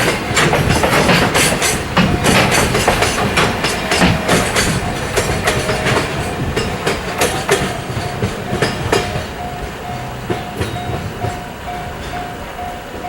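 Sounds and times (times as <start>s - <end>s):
level crossing warning bell: 0.0s - 13.0s
train wagons clattering over rail joints: 0.0s - 13.0s.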